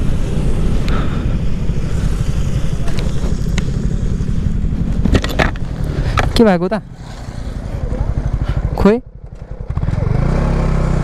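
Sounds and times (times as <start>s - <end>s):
motorcycle engine running: 0.0s - 11.0s
road rumble: 0.0s - 11.0s.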